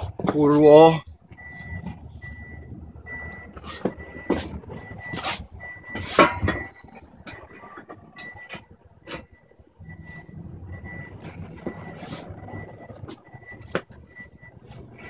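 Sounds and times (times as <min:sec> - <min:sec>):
high reversing alarm beep: 0:01.3 - 0:15.0.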